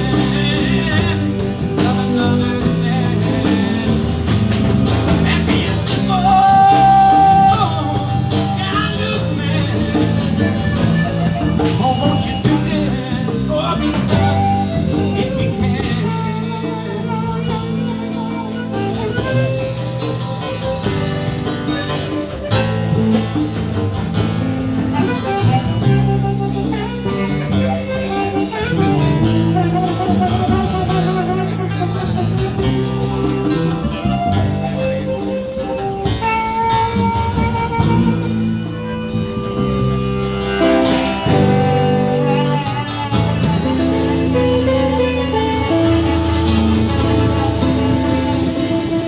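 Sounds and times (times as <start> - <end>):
blues band playing: 0.0 - 49.0
electric guitar: 0.0 - 49.0.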